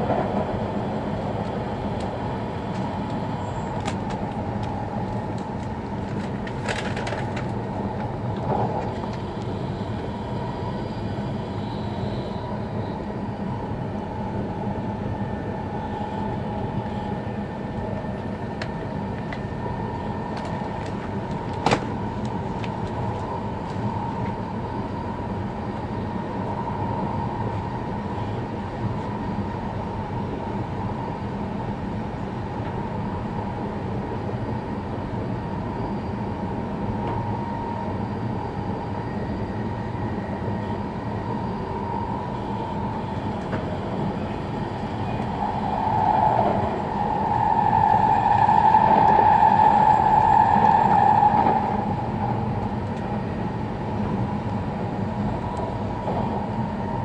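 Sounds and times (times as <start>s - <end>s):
train running rumble: 0.0s - 35.7s, 39.5s - 57.0s.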